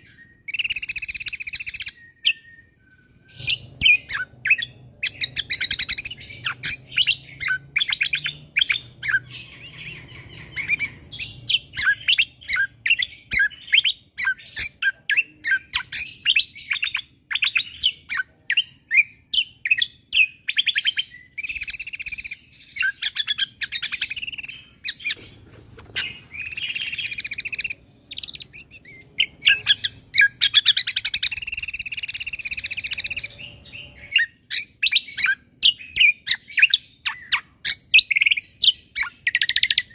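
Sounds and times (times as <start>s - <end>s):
songbird singing sharp chirps: 0.0s - 39.9s.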